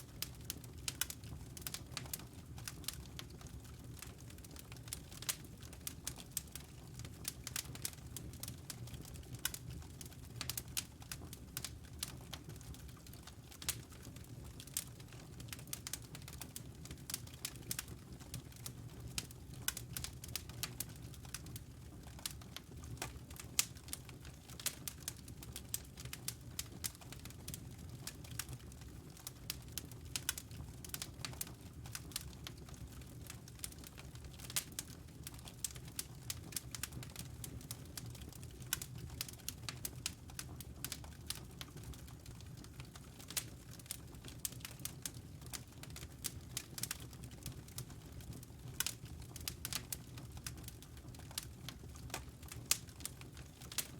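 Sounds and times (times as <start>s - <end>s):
low rumble of flames: 0.0s - 53.9s
wood fire crackling: 0.0s - 53.9s.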